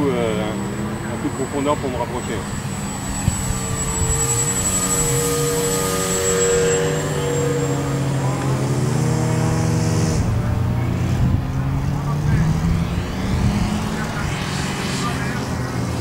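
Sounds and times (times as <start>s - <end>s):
model airplane motor droning: 0.0s - 16.0s.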